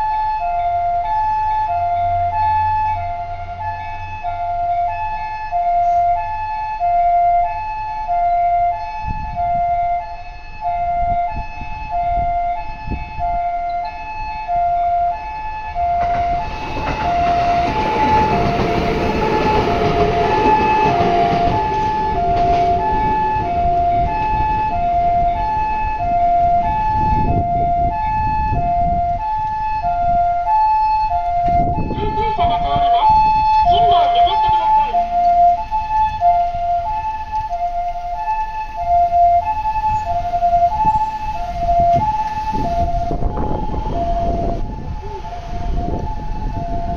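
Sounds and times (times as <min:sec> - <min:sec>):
two-tone ambulance siren: 0:00.0 - 0:46.9
train rumble: 0:08.4 - 0:46.9.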